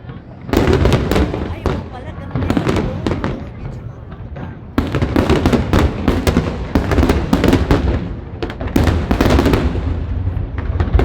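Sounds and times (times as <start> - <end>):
fireworks cracking and popping: 0.0 - 11.0
rumble of firework blasts: 0.0 - 11.0.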